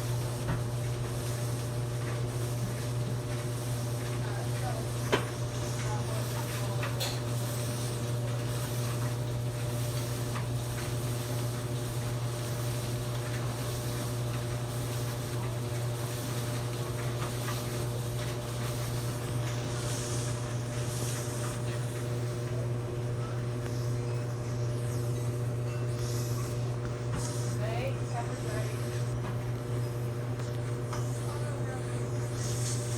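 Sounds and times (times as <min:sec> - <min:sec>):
clothes dryer humming: 0:00.0 - 0:32.9.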